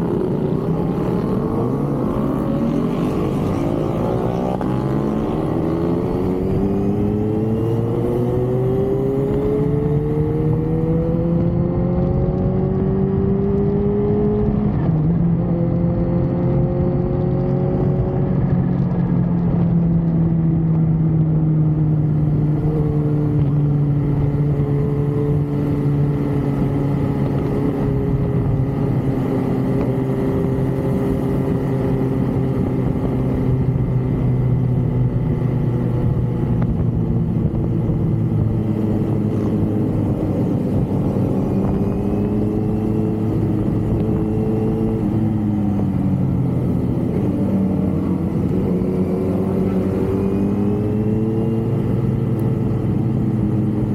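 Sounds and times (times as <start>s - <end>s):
road and wind noise: 0.0s - 53.9s
vehicle engine accelerating: 0.0s - 53.9s.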